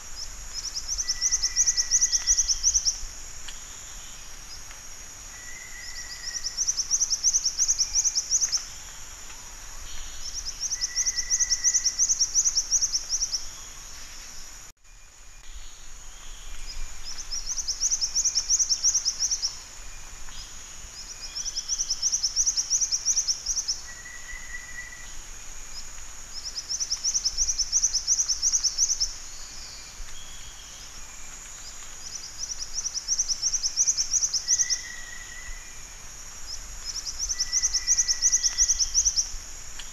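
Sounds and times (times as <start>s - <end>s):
high insect-like hiss: 0.0s - 39.9s.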